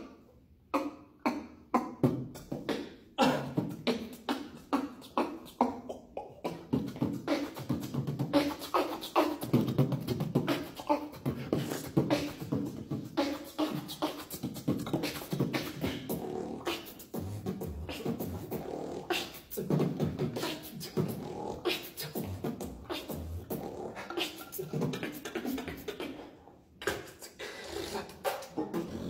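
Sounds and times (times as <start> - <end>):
beatboxing: 0.0 - 29.0.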